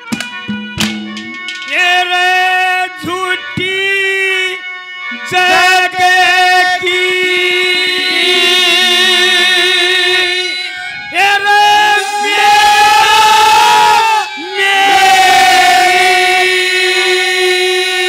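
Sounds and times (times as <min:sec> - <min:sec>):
harmonium: 0:00.0 - 0:18.0.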